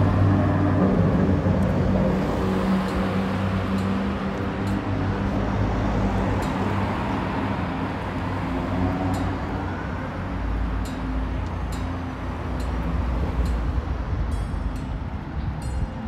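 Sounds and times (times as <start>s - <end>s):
steady traffic noise: 0.0s - 16.0s.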